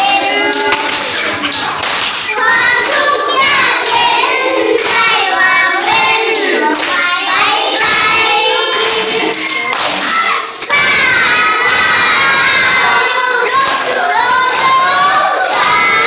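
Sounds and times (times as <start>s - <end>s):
children clapping: 0.0s - 16.0s
children singing in unison: 0.0s - 16.0s.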